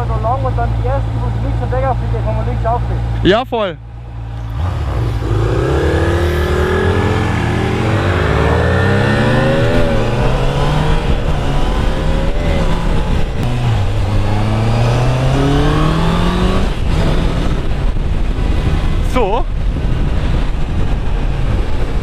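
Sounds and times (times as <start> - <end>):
motorcycle engine accelerating: 3.2 - 22.0.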